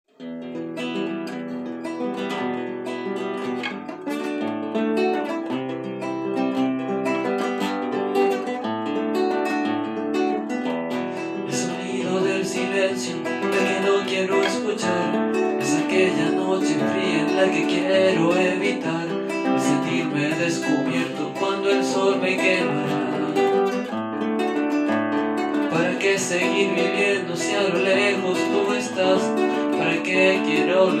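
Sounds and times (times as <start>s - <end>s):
acoustic guitar picking and strumming: 0.1s - 31.0s.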